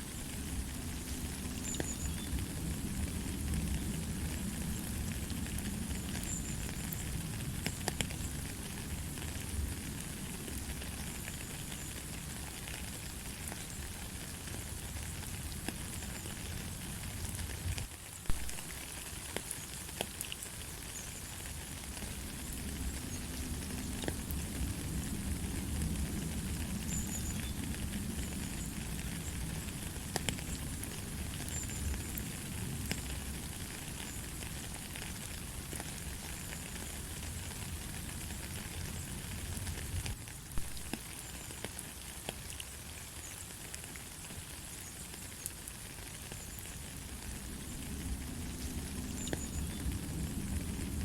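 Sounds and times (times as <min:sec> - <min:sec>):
light rain hiss: 0:00.0 - 0:51.0
rain drop ticks: 0:00.3 - 0:51.0.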